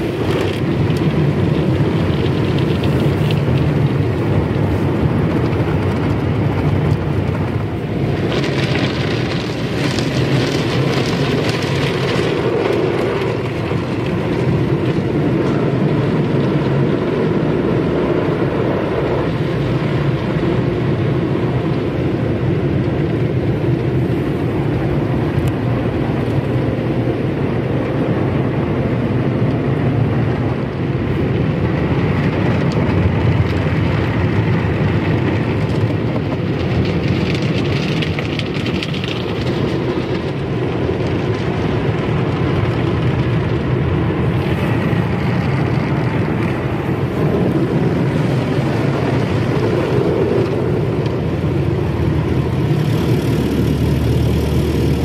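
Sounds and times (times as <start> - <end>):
car wash water spraying: 0.0 - 55.0.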